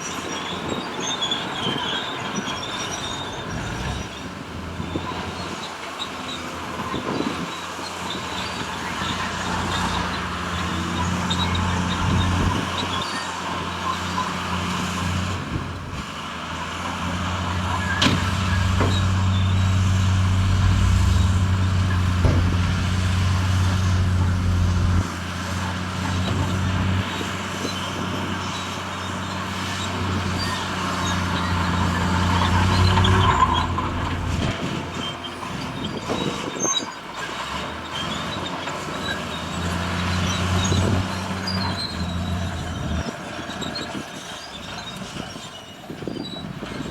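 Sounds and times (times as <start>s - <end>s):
heavy diesel machinery engine drone: 0.0s - 45.4s.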